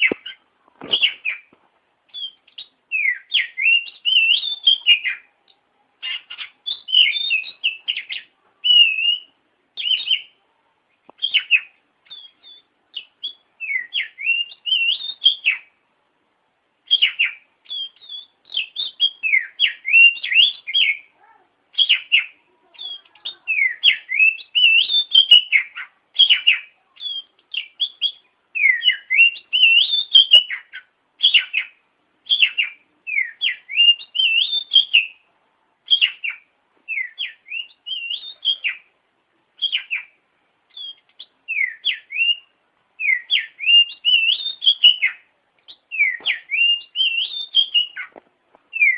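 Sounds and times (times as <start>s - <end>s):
bird singing whistled phrases: 2.1s - 5.3s, 6.0s - 10.4s, 11.2s - 15.7s, 16.9s - 21.1s, 21.7s - 35.2s, 35.9s - 38.9s, 39.6s - 48.1s.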